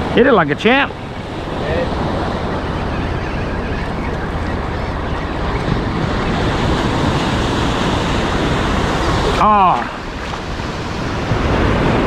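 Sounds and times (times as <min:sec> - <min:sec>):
surf washing: 0:00.0 - 0:12.0
wind rumbling on microphone: 0:00.0 - 0:12.0.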